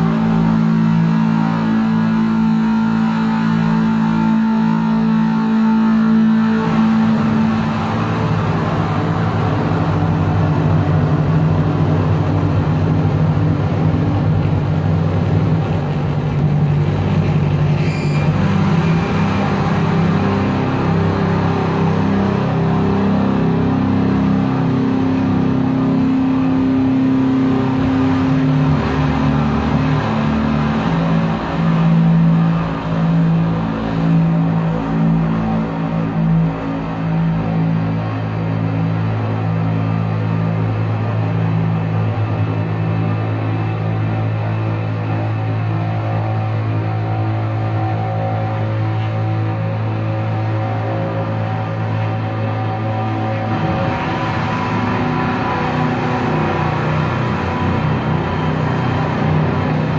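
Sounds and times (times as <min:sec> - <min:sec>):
distorted electric guitar drone: 0:00.0 - 0:59.9
guitar feedback: 0:00.0 - 0:59.9.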